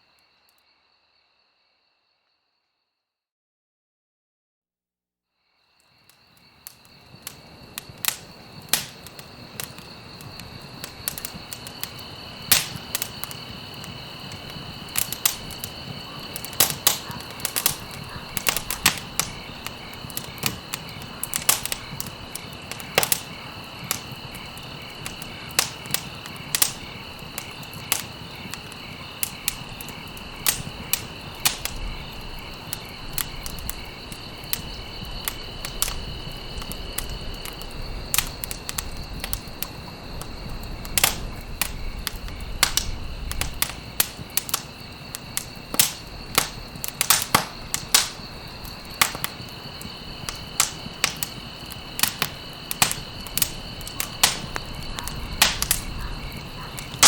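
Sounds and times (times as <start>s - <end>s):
crickets chirping: 0.0s - 3.1s, 5.3s - 57.0s
campfire crackling: 5.8s - 57.0s.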